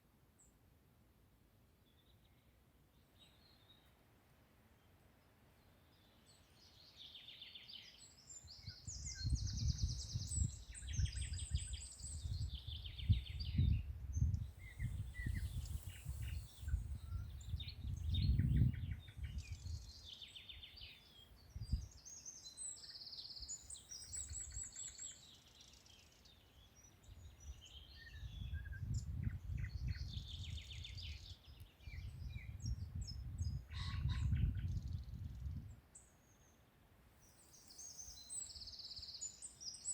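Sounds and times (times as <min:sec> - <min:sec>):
songbirds singing and chirping: 0:01.8 - 0:04.0, 0:04.7 - 0:39.9.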